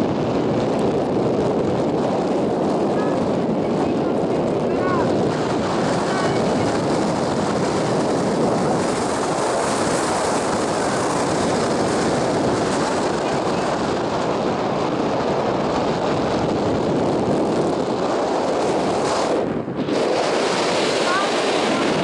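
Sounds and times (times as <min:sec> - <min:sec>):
wind blowing across microphone: 0:00.0 - 0:22.0.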